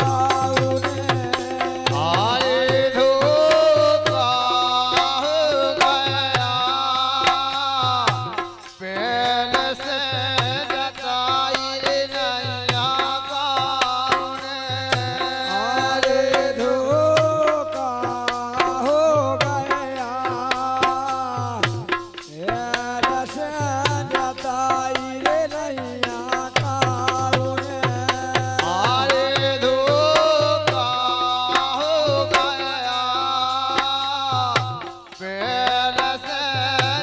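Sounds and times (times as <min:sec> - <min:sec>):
hand drum beat: 0:00.0 - 0:37.0
person singing: 0:00.0 - 0:37.0.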